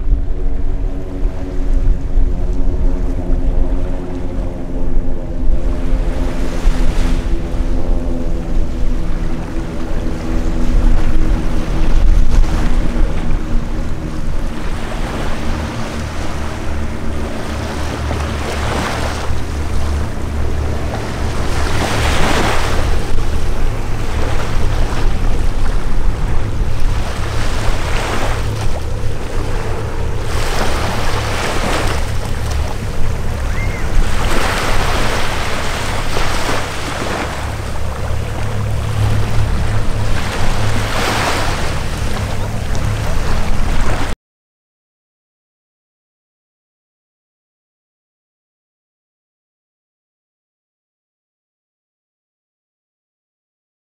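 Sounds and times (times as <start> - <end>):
propeller aircraft droning overhead: 0.0 - 44.2
rushing wind: 0.0 - 44.2
surf: 0.0 - 44.2.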